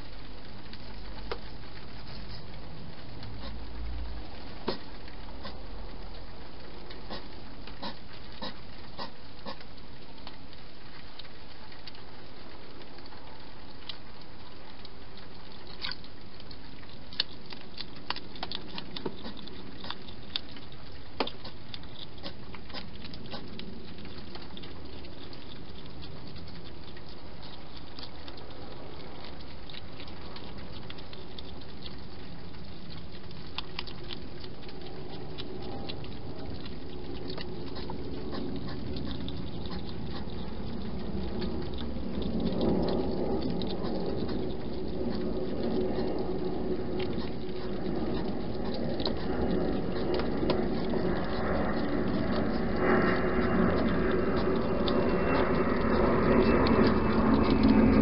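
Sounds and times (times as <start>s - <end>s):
hedgehog eating wet clicks: 0.0s - 58.0s.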